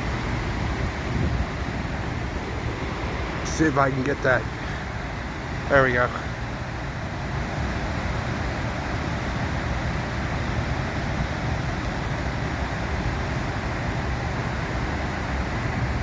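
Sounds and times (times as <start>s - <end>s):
waterfall rushing with low rumble: 0.0s - 16.0s.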